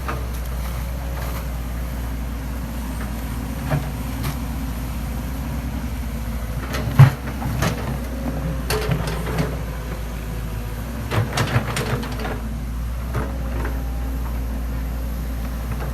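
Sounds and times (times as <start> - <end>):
excavator engine running: 0.0 - 15.9.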